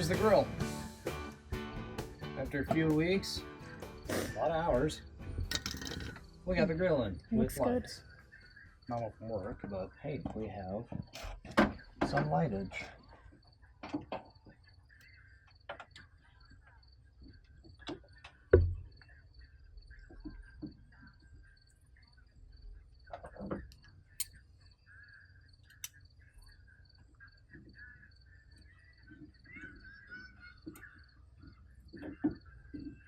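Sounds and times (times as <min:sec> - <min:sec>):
crickets chirping: 0:01.6 - 0:33.0.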